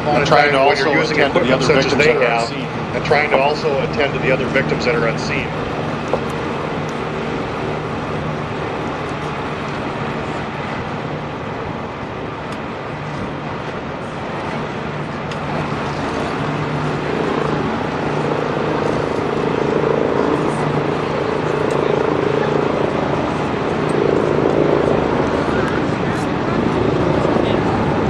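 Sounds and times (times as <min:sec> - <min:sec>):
engine humming: 0:00.0 - 0:28.0
outdoor noise: 0:00.0 - 0:28.0.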